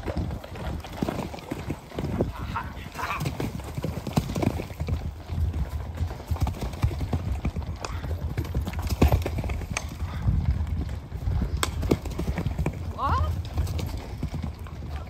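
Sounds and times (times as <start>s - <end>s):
hooves knocking obstacle: 0.0s - 15.0s
horse hooves cantering on soft ground: 0.0s - 15.0s.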